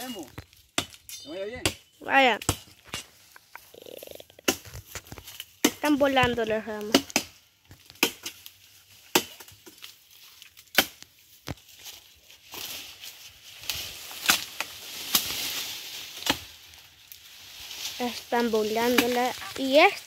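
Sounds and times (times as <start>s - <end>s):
branches cracking: 0.0s - 20.0s
leafy branches rustling: 0.0s - 20.0s.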